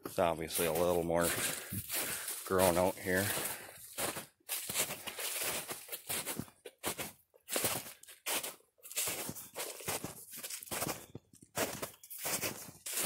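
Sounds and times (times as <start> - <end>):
footsteps crunching through snow: 0.0 - 13.0.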